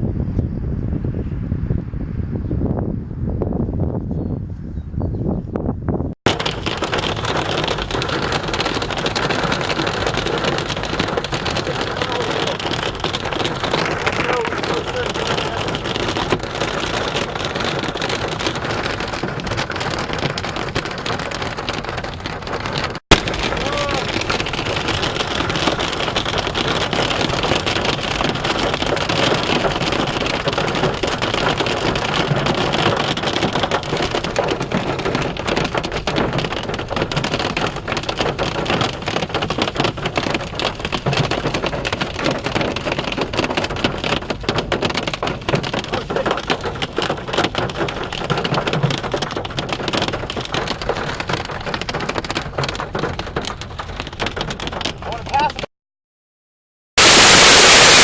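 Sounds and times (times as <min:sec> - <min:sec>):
heavy rain pelting down: 0:06.3 - 0:55.7, 0:57.0 - 0:58.0.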